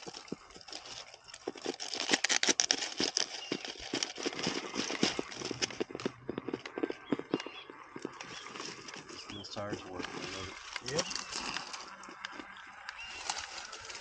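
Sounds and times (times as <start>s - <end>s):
leaves and twigs crackling: 0.0s - 14.0s.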